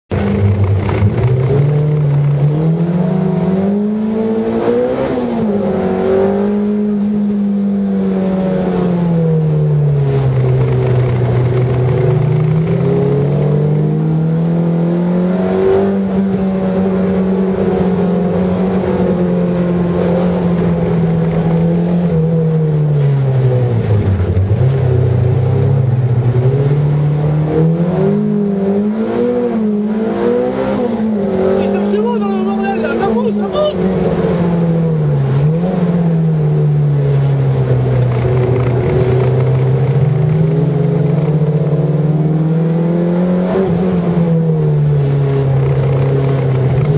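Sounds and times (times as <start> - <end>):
car engine revving: 0.1 - 46.9.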